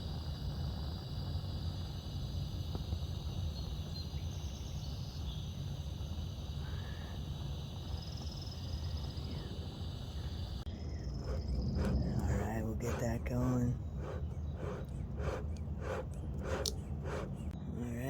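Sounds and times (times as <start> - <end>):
propane torch flame rushing: 0.0 - 17.6
insect drone: 0.0 - 18.0.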